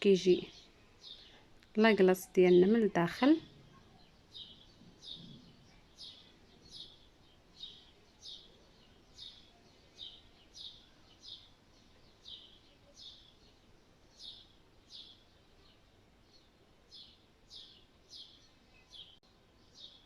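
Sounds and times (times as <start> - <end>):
small bird chirping: 3.4 - 20.0.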